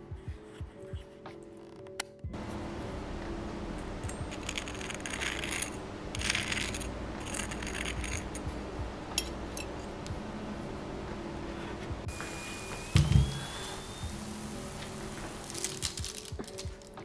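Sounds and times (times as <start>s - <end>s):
steady low hum: 2.3s - 17.0s.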